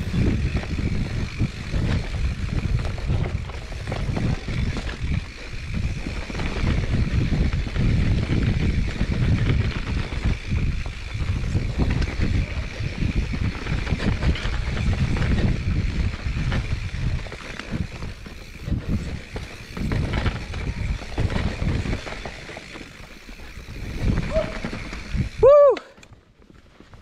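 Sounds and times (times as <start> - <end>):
bike rattling over bumps: 0.0 - 27.0
bike tyres on dirt: 0.0 - 27.0
wind rumbling on microphone: 0.0 - 27.0.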